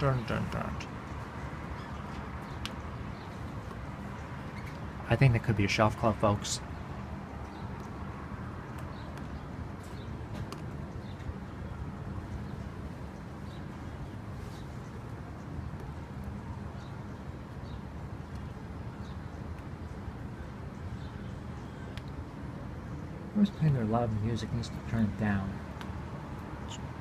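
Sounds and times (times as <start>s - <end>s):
distant music with low bass: 0.0s - 27.0s.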